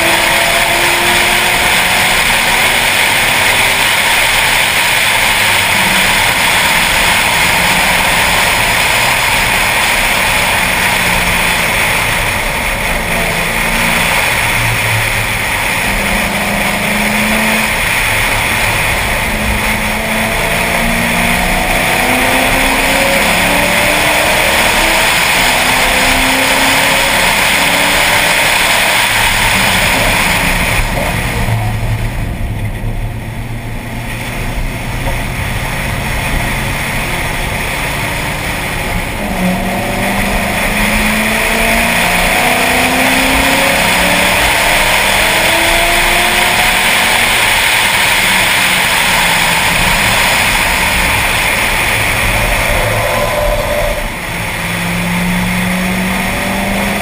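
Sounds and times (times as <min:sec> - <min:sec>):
car engine accelerating: 0:00.0 - 0:57.0
wind and road noise: 0:00.0 - 0:57.0.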